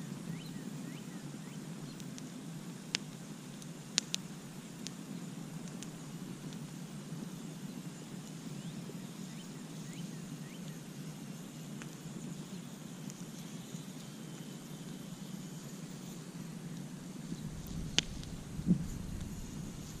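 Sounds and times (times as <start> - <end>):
campfire low rumble: 0.0 - 20.0
faint crackles and pops: 0.0 - 20.0.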